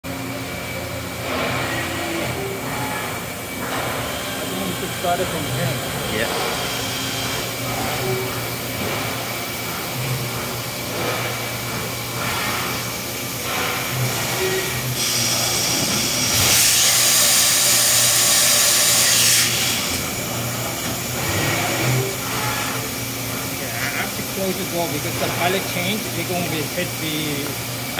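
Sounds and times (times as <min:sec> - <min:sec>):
machining center hum: 0:00.0 - 0:27.9.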